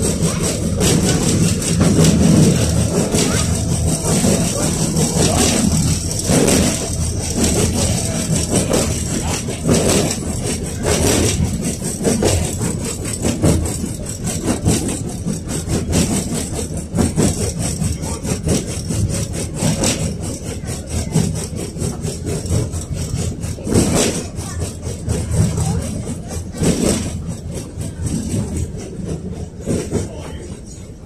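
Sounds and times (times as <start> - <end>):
car body rattling: 0.0 - 30.9
tram wheels rumbling on rails: 0.0 - 31.0.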